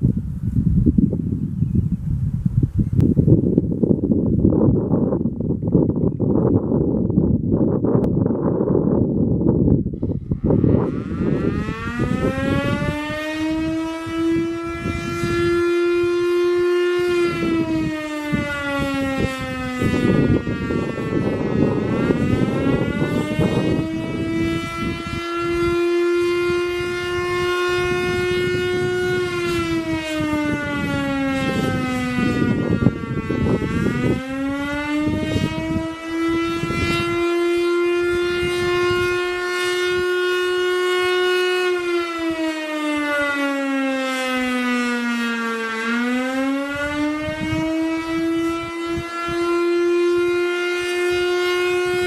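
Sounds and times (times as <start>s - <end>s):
siren wailing: 10.0s - 52.0s.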